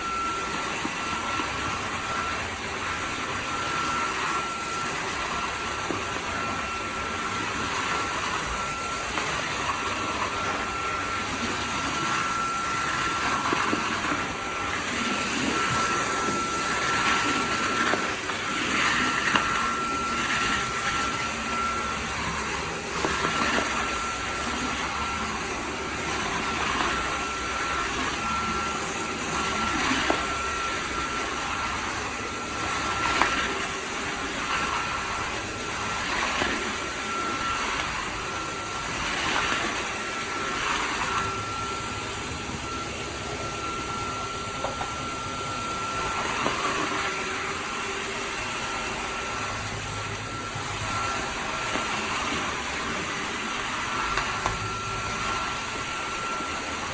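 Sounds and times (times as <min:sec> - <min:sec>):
vacuum cleaner whining: 0:00.0 - 0:56.9.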